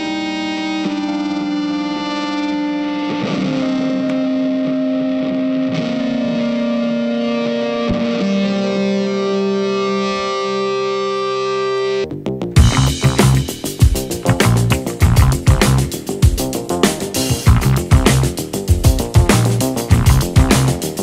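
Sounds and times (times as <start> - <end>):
guitar with effects slow notes: 0.0 - 21.0.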